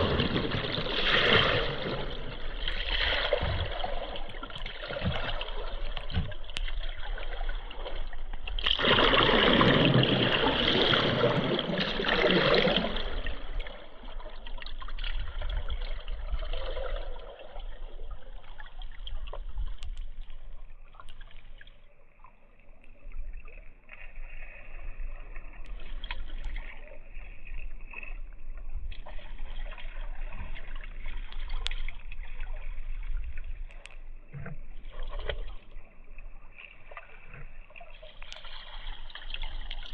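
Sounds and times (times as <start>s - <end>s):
rush of splashing water: 0.0s - 21.9s, 23.4s - 39.9s
river water trickling and lapping: 0.0s - 39.9s.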